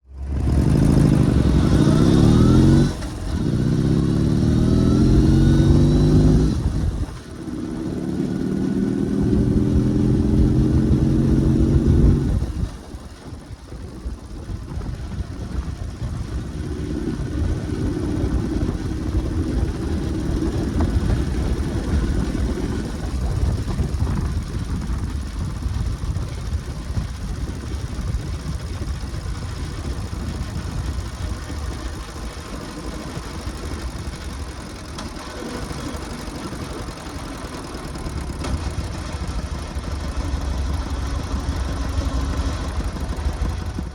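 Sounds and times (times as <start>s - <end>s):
motorcycle engine chugging: 0.1s - 43.9s.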